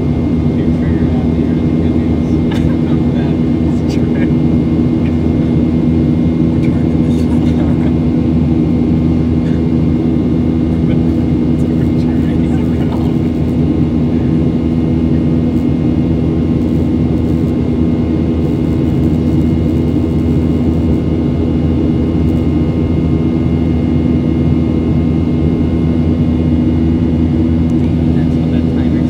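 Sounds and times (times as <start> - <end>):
faint high whines: 0.0 - 29.0
jet engine cabin drone: 0.0 - 29.0.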